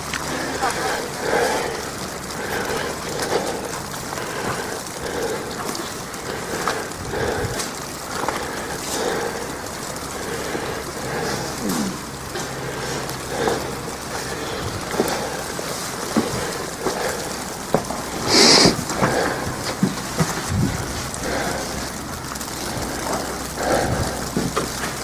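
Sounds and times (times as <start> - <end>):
sleet hissing on an umbrella: 0.0 - 24.8
drops ticking on an umbrella: 0.0 - 25.0.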